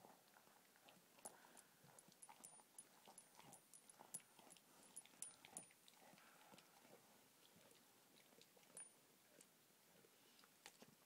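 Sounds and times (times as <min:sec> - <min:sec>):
dog chewing bone: 0:00.3 - 0:09.5.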